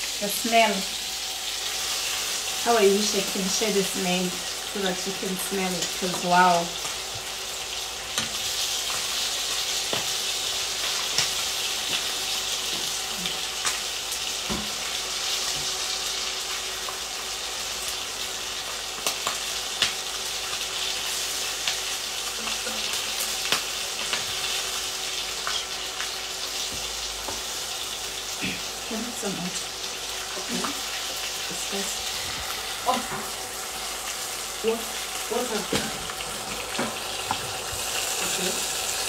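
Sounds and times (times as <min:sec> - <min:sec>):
chicken wings sizzling in oil: 0:00.0 - 0:39.0.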